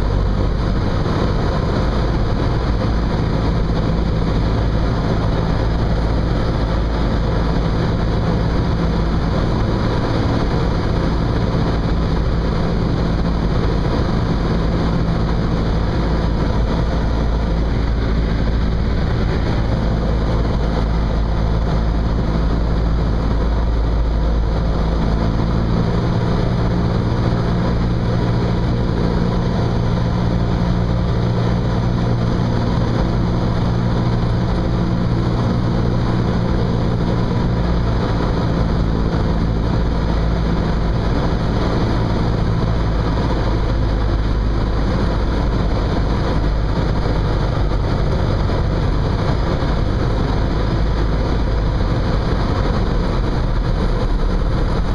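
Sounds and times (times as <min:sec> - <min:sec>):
propeller plane engine droning: 0:00.0 - 0:54.9.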